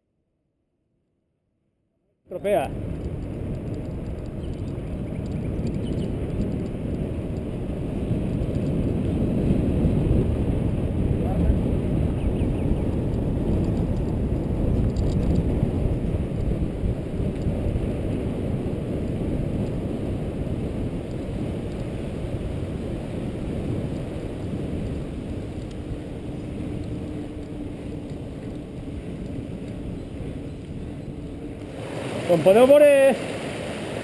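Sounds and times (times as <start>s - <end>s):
wind buffeting microphone: 2.4s - 34.0s
bike tyre rumble on pavement: 2.5s - 34.0s.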